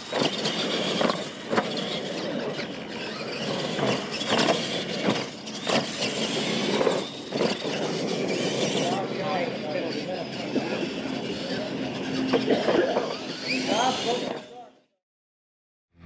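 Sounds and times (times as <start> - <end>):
tyres churning dirt: 0.0 - 14.8
electric motors and gears whining: 0.0 - 14.9.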